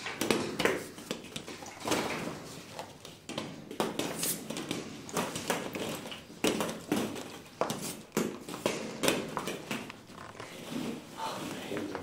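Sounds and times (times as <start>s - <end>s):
rustling of plastic balls: 0.0s - 12.0s.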